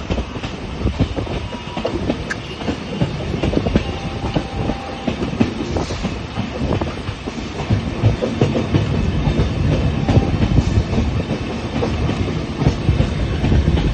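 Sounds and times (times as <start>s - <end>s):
train rumble: 0.0s - 13.9s
train wheels clacking on rails: 0.0s - 13.9s.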